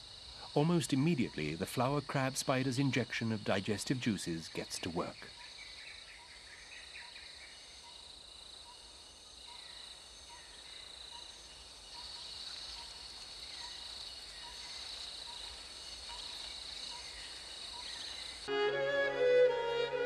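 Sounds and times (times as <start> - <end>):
insects trilling: 0.0 - 18.6.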